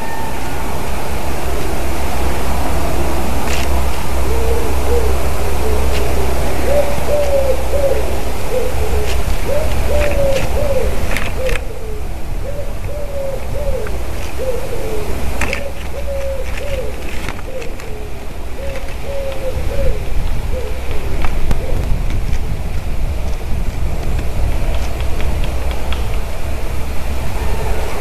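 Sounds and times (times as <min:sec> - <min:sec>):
bird hooting: 0:00.0 - 0:22.0, 0:27.2 - 0:28.0.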